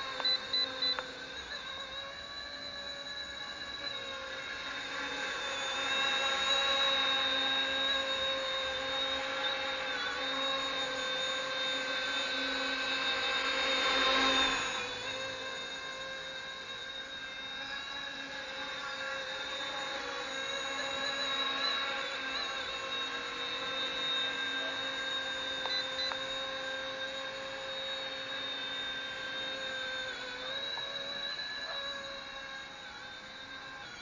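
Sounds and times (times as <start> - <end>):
rc helicopter rotor whine: 0.0 - 34.0.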